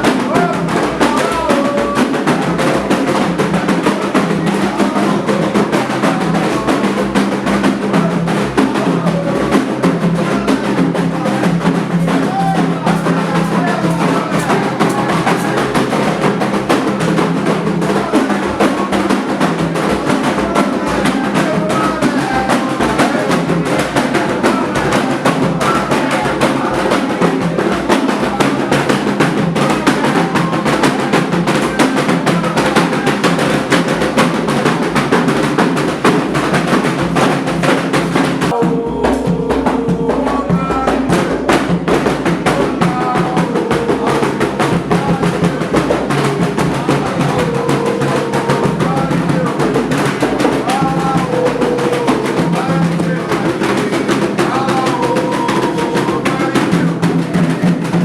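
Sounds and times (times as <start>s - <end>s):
fast hand drumming: 0.0s - 58.0s.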